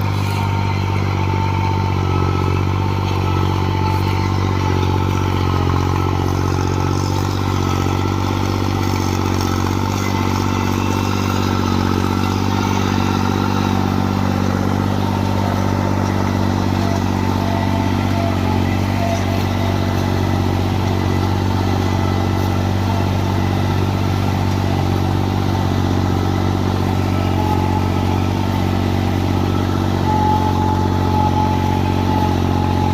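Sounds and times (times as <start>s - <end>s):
baler working: 0.0s - 32.9s
tractor diesel engine running: 0.0s - 32.9s.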